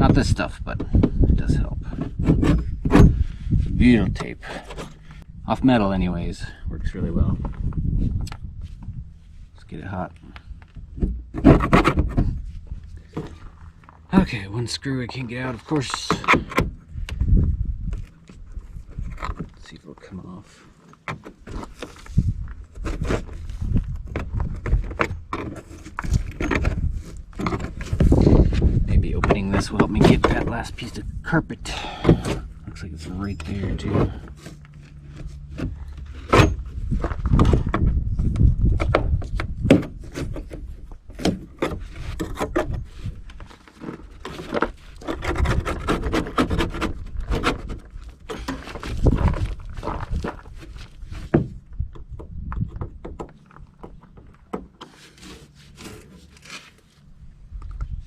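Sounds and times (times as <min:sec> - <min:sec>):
knocks scrapes and thumps: 0:00.0 - 0:05.3, 0:06.9 - 0:58.0.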